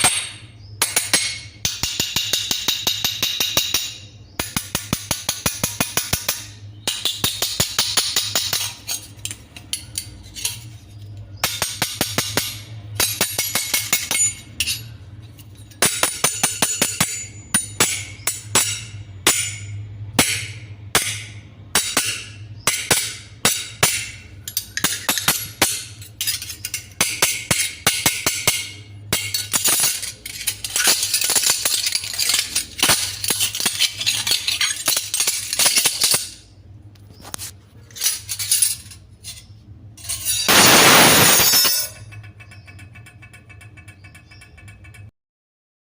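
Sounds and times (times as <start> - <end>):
steel spoons clattering: 0.0 - 36.5, 37.3 - 45.1.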